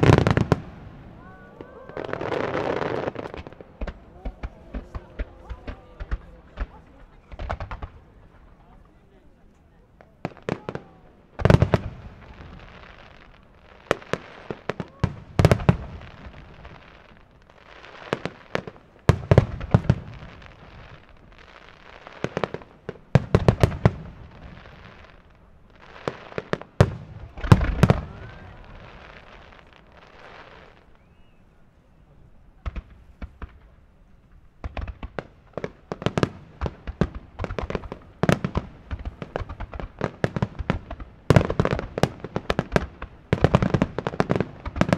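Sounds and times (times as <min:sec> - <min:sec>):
firework crackling: 0:00.0 - 0:09.2, 0:10.0 - 0:31.4, 0:32.6 - 0:44.9.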